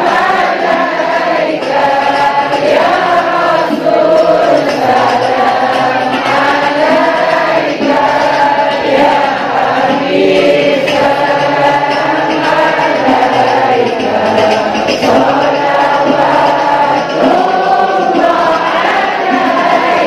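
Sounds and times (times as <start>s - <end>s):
choir singing devotional chant: 0.0s - 20.0s.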